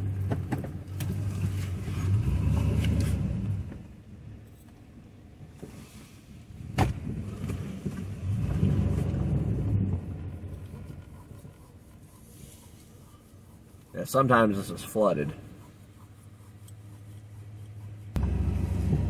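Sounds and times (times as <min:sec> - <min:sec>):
pickup engine and road rumble: 0:00.0 - 0:19.0.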